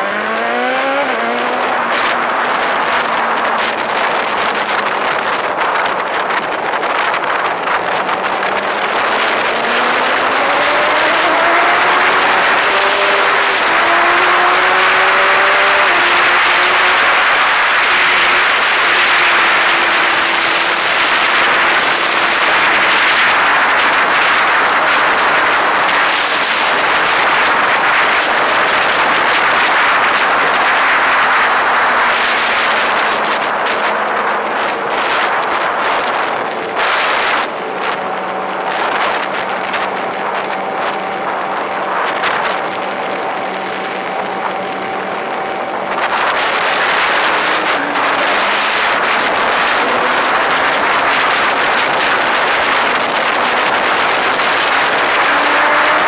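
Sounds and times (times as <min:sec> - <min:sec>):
engine hum: 0:00.0 - 0:56.0
wind and road noise: 0:00.0 - 0:56.0.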